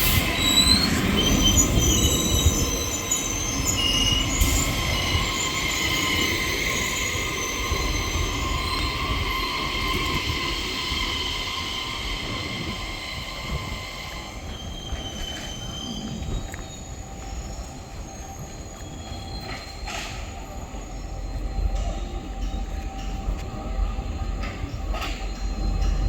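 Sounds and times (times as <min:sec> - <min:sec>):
rumble of train cars: 0:00.0 - 0:26.0
train wheels and brakes squealing: 0:00.0 - 0:26.0.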